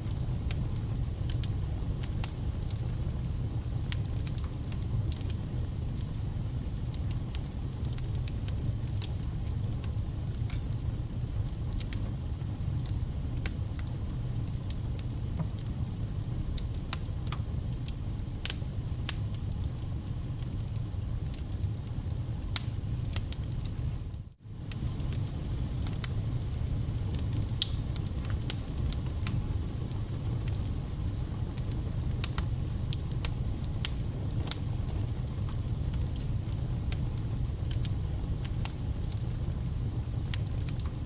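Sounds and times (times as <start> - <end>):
firewood crackling and popping: 0.0 - 41.0
flames rumbling: 0.0 - 41.0.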